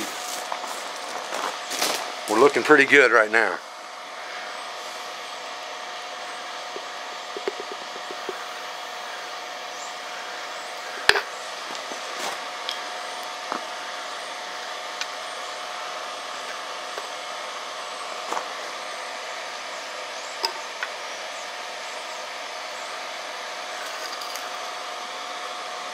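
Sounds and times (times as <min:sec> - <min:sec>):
forge rushing hum: 0:00.0 - 0:25.9.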